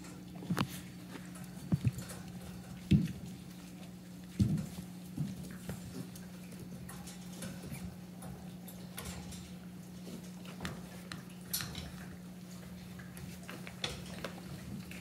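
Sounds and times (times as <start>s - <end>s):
puppies playing and scuffling: 0.0s - 15.0s
steady low hum: 0.0s - 15.0s.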